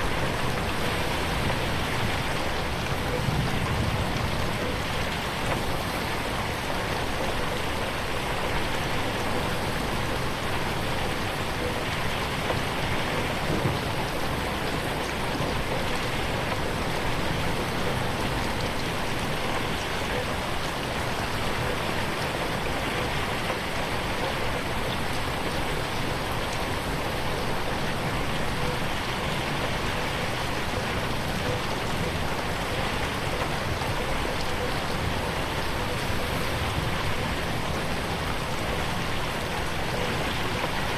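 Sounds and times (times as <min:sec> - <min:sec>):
rain on a window: 0:00.0 - 0:40.9.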